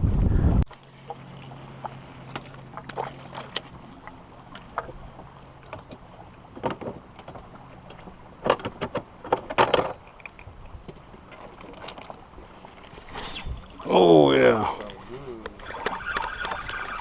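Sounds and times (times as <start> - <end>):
water slapping against hull: 0.7 - 17.0.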